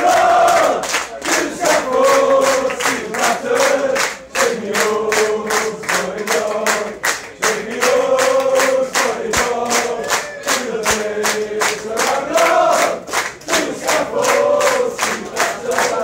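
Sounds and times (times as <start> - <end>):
crowd singing a chant: 0.0 - 16.0
rhythmic clapping: 0.0 - 16.0.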